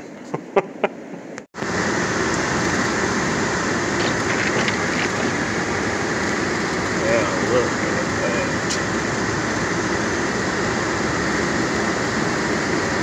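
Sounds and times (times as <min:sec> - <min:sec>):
car engine and road noise: 0:01.2 - 0:13.0.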